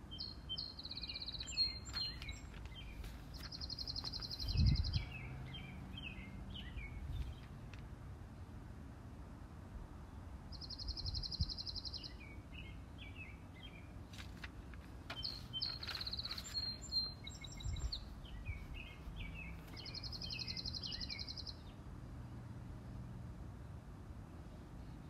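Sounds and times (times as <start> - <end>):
songbirds trilling and chirping: 0.0 - 8.6, 10.0 - 25.0.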